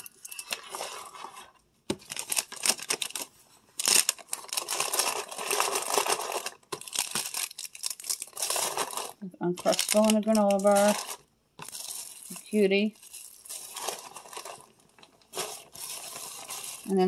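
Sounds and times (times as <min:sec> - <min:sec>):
plastic wrappers crinkling: 0:00.4 - 0:17.0.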